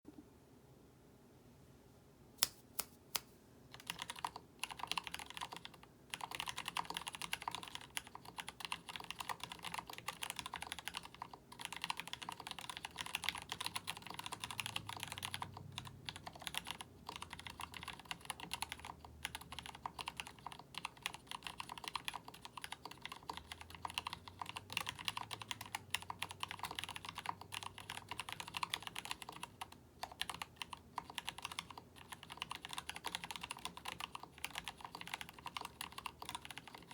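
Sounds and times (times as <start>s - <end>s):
typing on mechanical keyboard: 3.7s - 36.9s.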